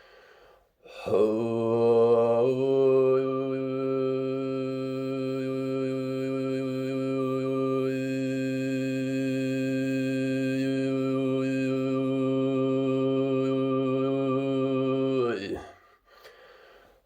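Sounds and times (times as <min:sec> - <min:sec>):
throat singing drone: 0:01.0 - 0:15.7.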